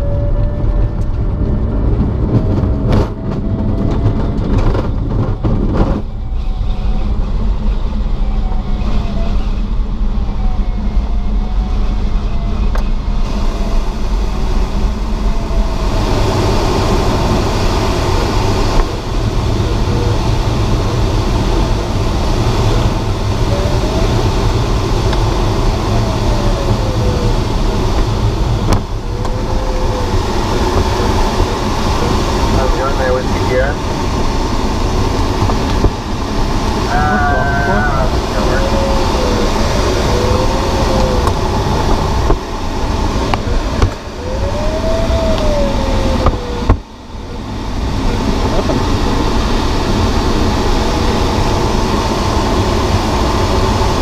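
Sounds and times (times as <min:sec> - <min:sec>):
low rumble: 0:00.0 - 0:54.0
rush of air in cockpit: 0:00.0 - 0:54.0.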